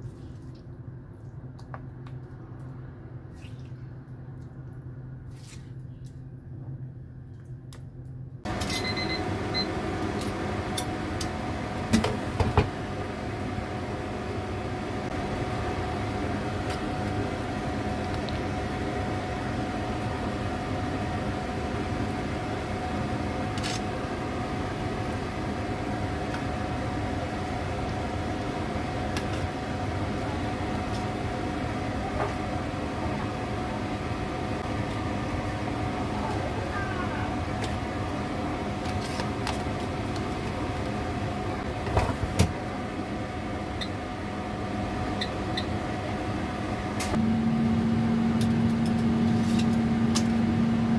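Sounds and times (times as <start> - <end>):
kitchen appliance fan whirring: 8.5 - 50.9.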